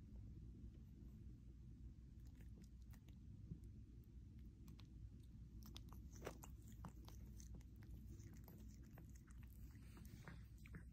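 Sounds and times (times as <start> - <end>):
low hum: 0.0 - 10.9
cat licking and chewing: 2.0 - 10.9.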